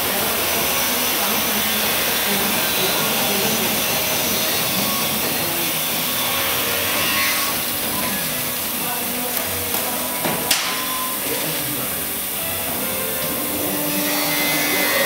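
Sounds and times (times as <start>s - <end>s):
hissing machinery noise: 0.0s - 15.0s.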